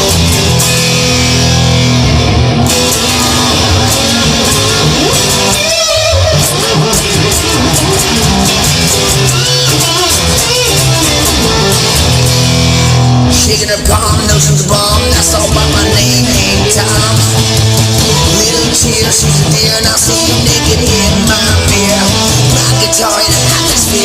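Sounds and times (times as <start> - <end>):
rock electric guitar playing: 0.0 - 24.0.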